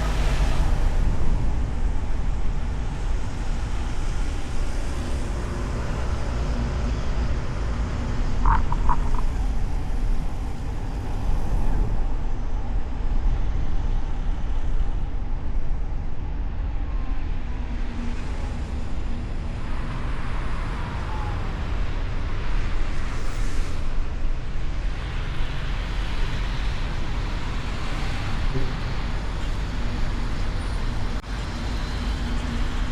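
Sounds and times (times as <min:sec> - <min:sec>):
passing traffic: 0:00.0 - 0:32.9
road and engine rumble: 0:00.0 - 0:32.9.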